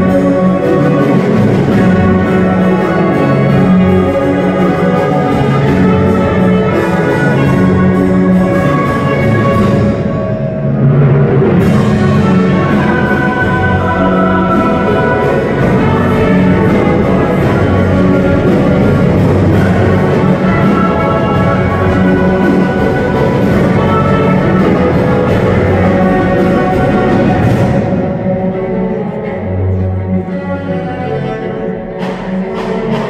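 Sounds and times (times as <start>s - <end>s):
orchestra playing sustained chords: 0.0s - 33.0s.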